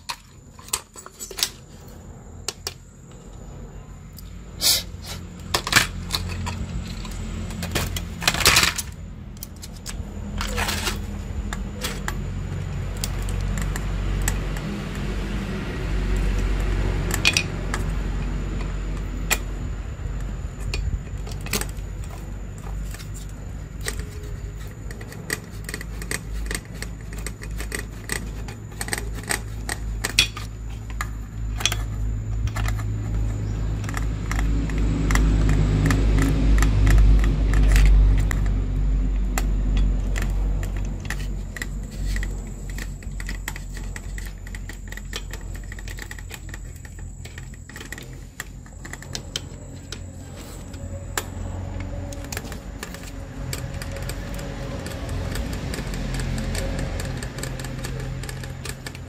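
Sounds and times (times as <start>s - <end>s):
hand tools and metal parts clinking: 0.0s - 3.3s, 4.1s - 59.0s.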